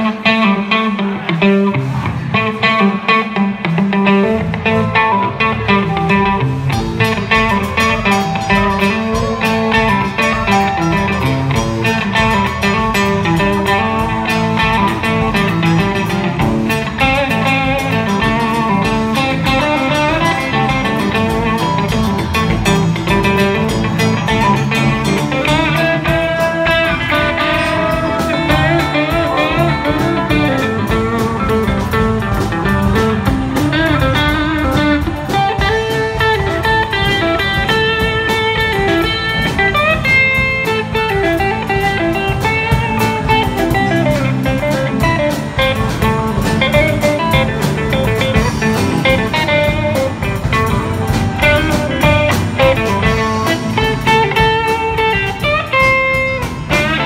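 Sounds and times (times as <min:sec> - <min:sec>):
electric guitar lead line: 0:00.0 - 0:57.0
live rock band playing: 0:00.0 - 0:57.0.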